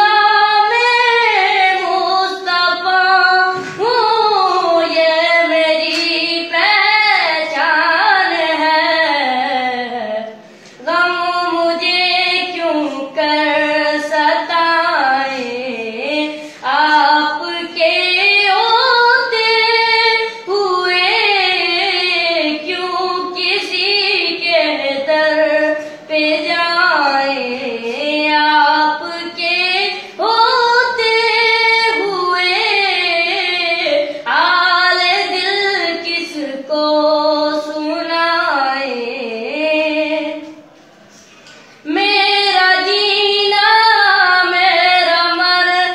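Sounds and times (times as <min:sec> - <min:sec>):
boy singing unaccompanied: 0:00.0 - 0:40.6, 0:41.9 - 0:45.9.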